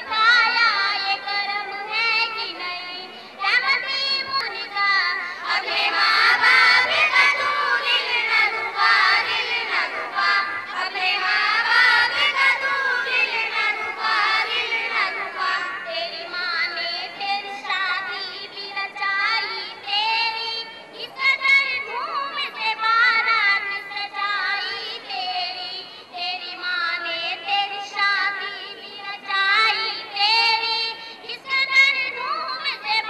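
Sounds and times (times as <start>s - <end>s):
girls singing into microphones: 0.0s - 33.0s.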